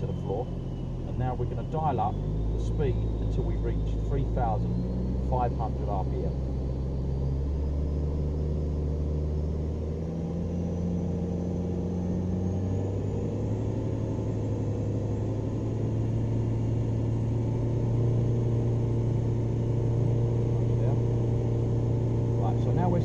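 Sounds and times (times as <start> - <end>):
car engine droning at full throttle: 0.0 - 23.0.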